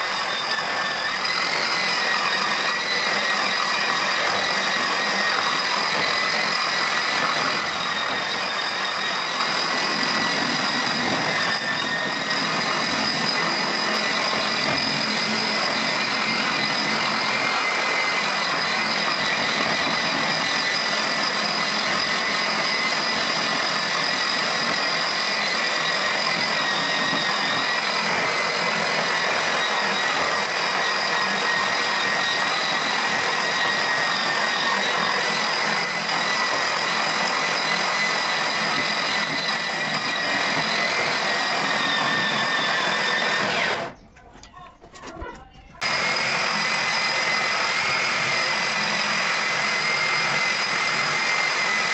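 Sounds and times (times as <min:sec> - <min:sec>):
electric grinder whining: 0:00.0 - 0:44.0, 0:45.8 - 0:51.9.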